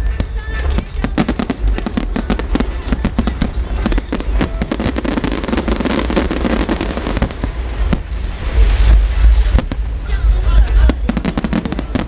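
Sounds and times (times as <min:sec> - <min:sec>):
fireworks cracking and banging: 0:00.0 - 0:12.0
low rumble: 0:00.0 - 0:12.0.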